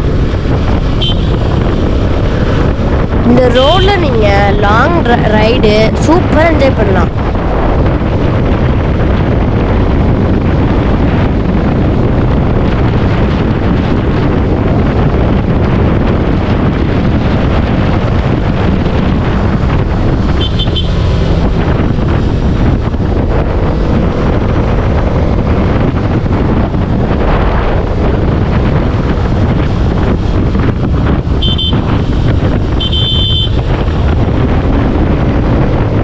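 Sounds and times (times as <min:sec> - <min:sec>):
motorcycle engine: 0:00.0 - 0:03.3, 0:07.1 - 0:36.0
wind buffeting microphone: 0:00.0 - 0:36.0.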